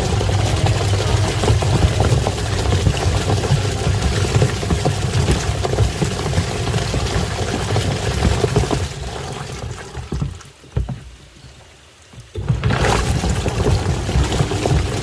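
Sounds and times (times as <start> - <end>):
washing machine motor rumble: 0.0 - 10.4, 12.3 - 15.0
water sloshing: 0.0 - 11.2, 12.0 - 15.0.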